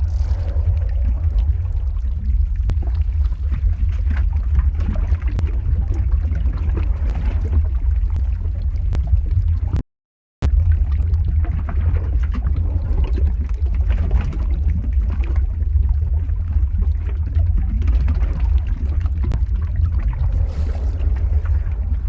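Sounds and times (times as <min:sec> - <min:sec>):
deep lava rumble: 0:00.0 - 0:09.8, 0:10.4 - 0:22.0
lava bubbling and crackling: 0:00.0 - 0:09.8, 0:10.4 - 0:22.0.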